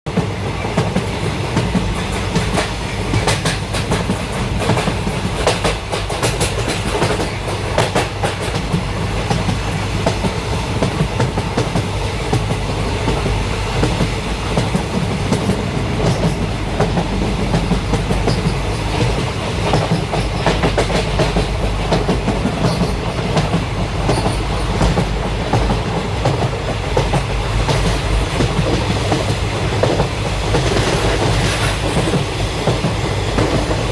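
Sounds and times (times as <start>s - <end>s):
train rumbling along track: 0.0s - 33.9s
wheels clacking over rail joints: 0.1s - 33.9s.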